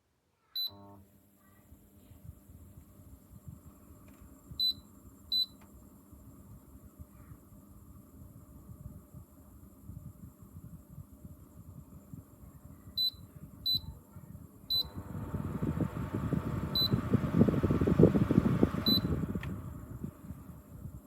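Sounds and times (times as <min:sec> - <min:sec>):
humidifier rushing noise: 0:02.0 - 0:21.0.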